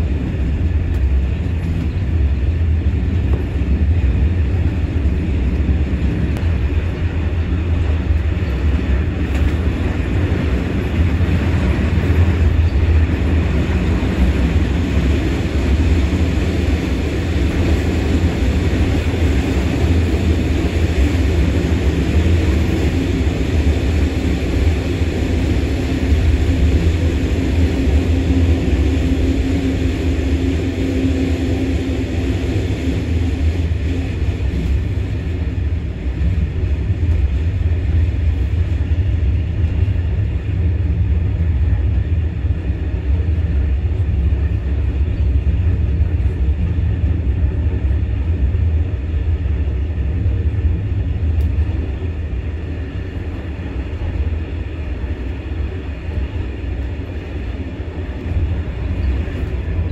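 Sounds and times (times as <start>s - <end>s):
train hum: 0.0s - 59.9s
train rumbling on track: 0.0s - 59.9s.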